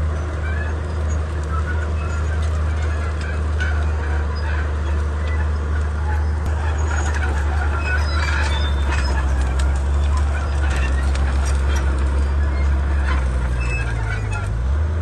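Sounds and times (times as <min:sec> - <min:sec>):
short high squeaks: 0:00.0 - 0:14.6
bulldozer diesel engine droning: 0:00.0 - 0:15.0.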